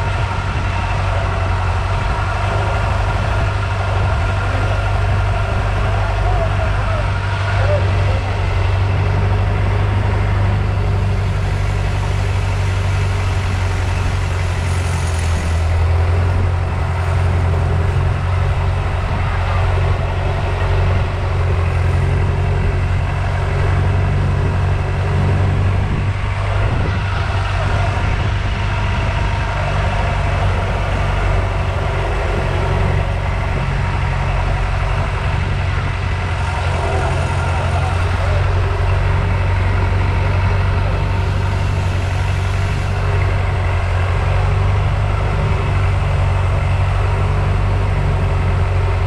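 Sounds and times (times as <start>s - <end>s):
boat engine drone: 0.0s - 49.0s
water rushing: 0.0s - 49.0s
wind noise: 0.0s - 49.0s.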